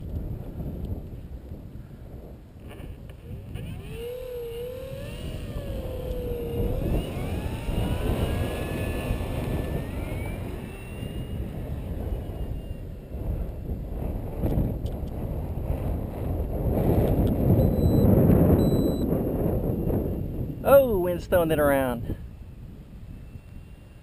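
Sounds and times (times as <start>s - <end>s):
wind buffeting microphone: 0.0s - 24.0s
electric model plane motor whining: 2.6s - 20.6s, 22.2s - 24.0s.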